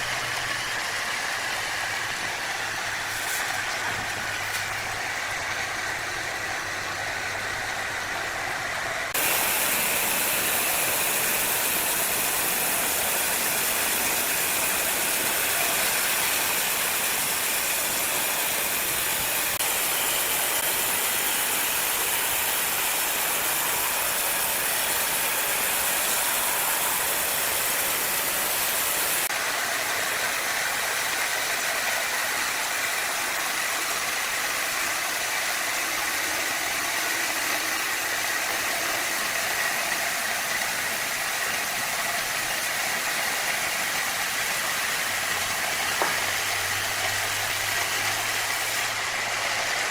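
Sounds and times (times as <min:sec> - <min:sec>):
power saw cutting wood: 0:00.0 - 0:49.9.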